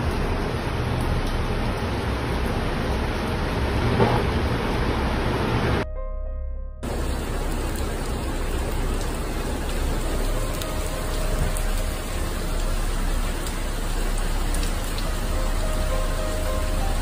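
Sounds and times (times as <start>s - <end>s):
rain pouring: 0.0s - 5.8s, 6.8s - 17.0s.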